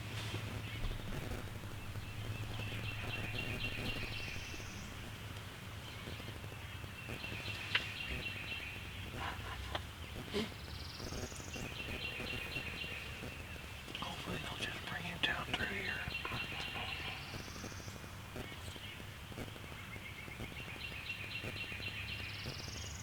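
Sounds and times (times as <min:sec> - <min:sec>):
faint clicks: 0:00.4 - 0:21.6
songbird trilling song: 0:00.6 - 0:09.2, 0:09.9 - 0:23.0.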